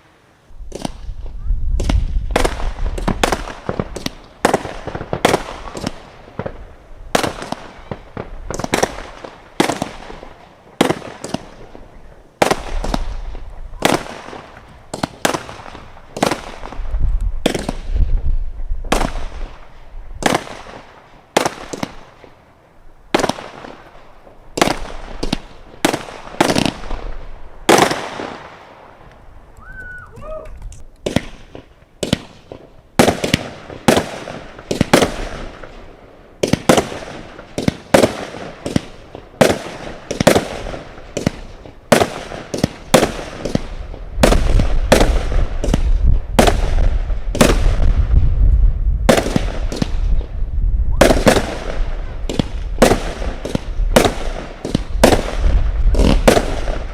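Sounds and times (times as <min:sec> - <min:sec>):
firework bangs: 0:00.6 - 0:22.4, 0:23.1 - 0:29.1, 0:31.0 - 0:56.9.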